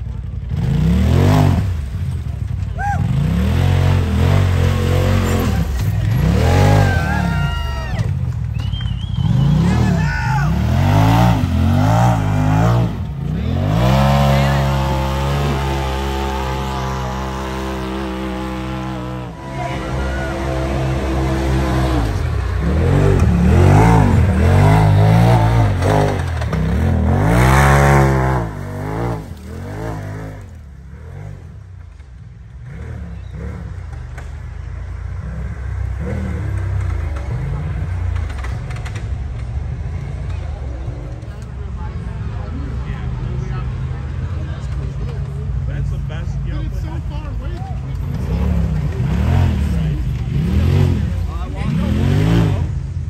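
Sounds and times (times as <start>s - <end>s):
utv engine revving: 0.0s - 40.2s, 47.6s - 53.0s.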